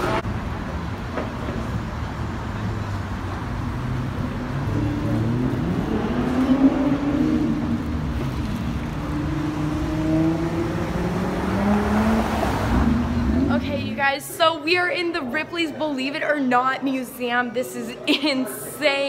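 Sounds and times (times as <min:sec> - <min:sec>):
road noise: 0:00.0 - 0:17.4.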